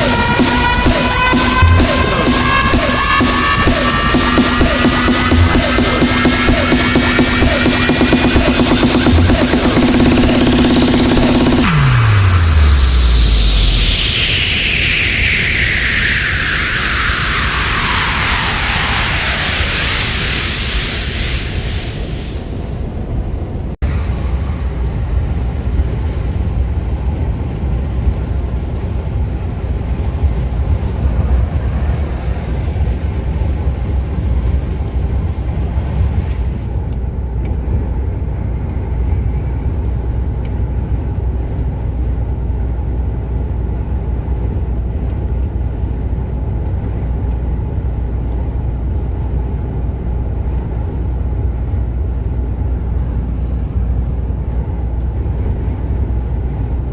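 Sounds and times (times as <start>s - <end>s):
road and tyre noise: 0.0s - 56.9s
truck engine drone: 0.0s - 56.9s.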